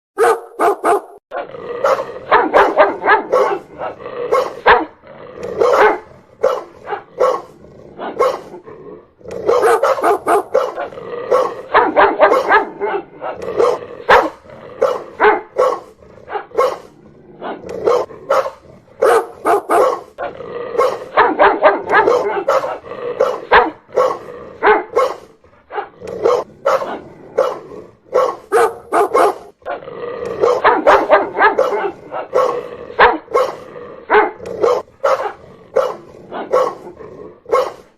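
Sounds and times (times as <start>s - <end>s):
dog barking loudly: 0.2s - 8.6s, 9.4s - 37.9s.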